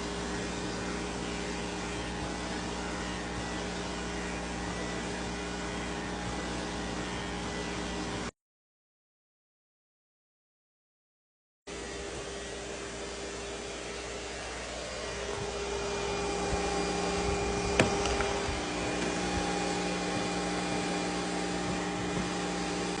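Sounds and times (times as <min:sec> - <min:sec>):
grooming vacuum motor whine: 0:00.0 - 0:08.3, 0:11.7 - 0:23.0.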